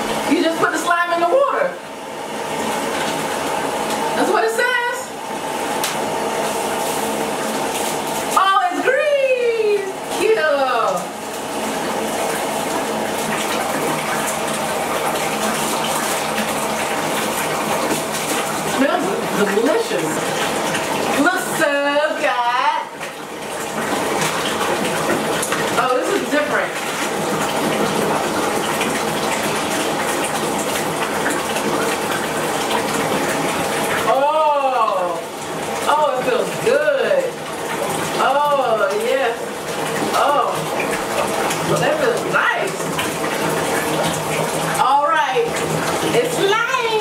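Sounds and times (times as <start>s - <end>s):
faucet water running into tub: 0.0s - 47.0s.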